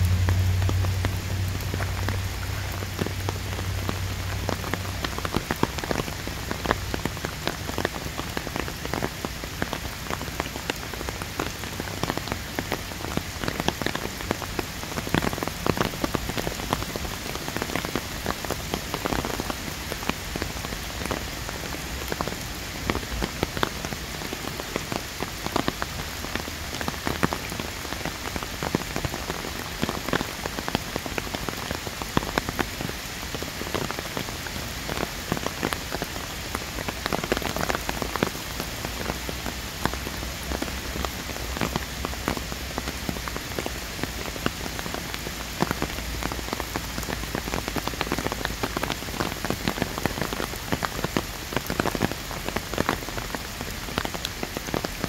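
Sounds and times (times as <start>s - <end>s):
rain falling: 0.0s - 55.0s
raindrops ticking close by: 0.0s - 55.0s.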